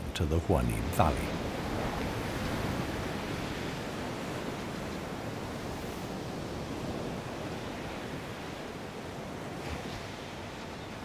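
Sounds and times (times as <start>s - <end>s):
ocean surf breaking on beach: 0.1s - 11.0s.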